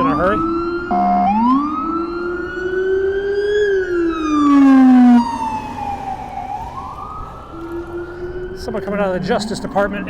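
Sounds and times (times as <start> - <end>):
emergency vehicle siren wailing: 0.0 - 10.0
loud siren blast: 0.0 - 10.0.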